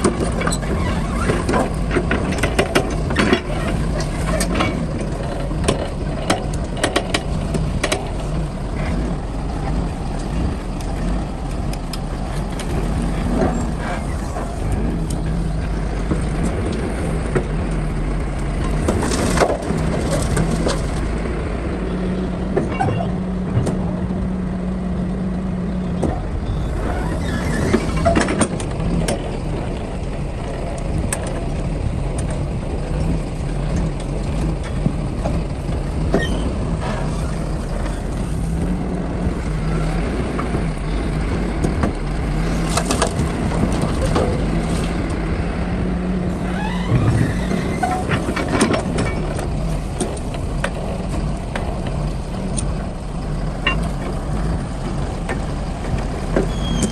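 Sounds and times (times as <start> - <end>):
knocks and clatters: 0.0 - 21.2, 30.9 - 56.9
excavator diesel engine humming: 0.0 - 56.9.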